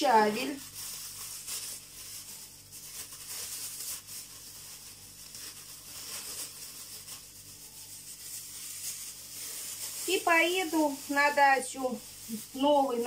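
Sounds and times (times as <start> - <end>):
plastic bag crinkling: 0.0 - 13.0
steady hiss: 0.0 - 13.0.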